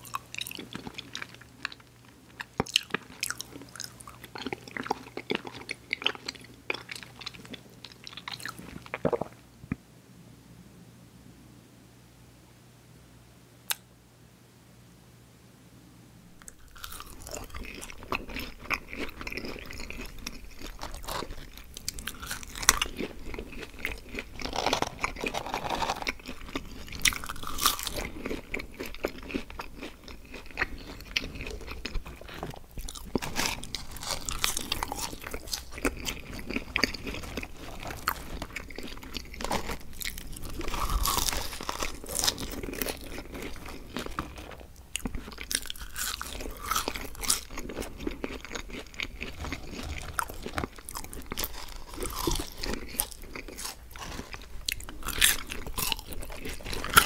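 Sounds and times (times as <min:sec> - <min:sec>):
crunchy chewing of food: 0:00.0 - 0:09.4, 0:16.4 - 0:57.0.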